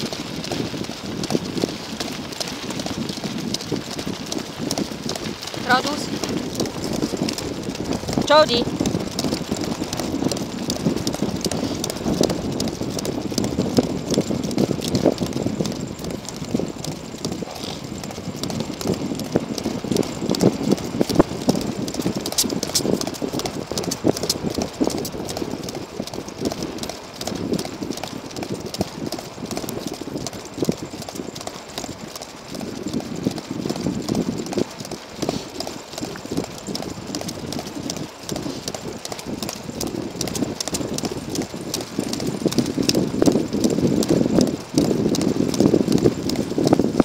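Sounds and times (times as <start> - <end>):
cart wheels rumbling: 0.0 - 47.0
dogs' running footfalls: 0.0 - 47.0
small rattling ticks: 1.7 - 46.5.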